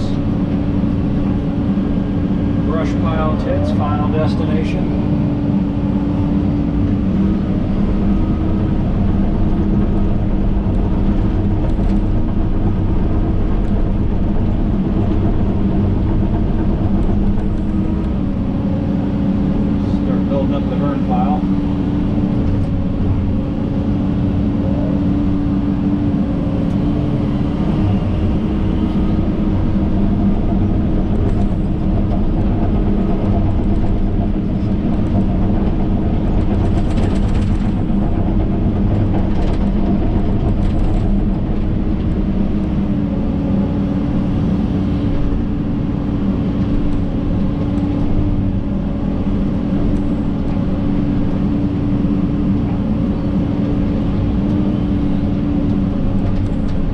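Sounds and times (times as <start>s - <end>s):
excavator diesel engine droning: 0.0s - 56.9s.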